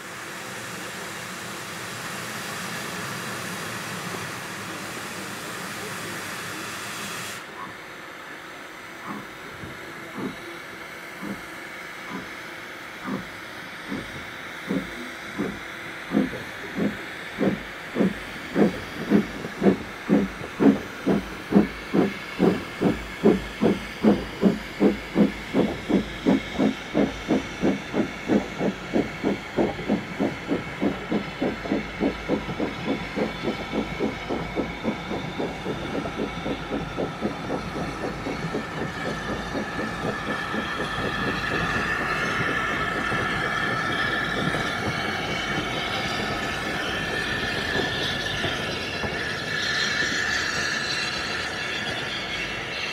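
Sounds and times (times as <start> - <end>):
steady steam hiss: 0.0 - 52.9
steam locomotive exhaust chuffing: 0.0 - 52.9.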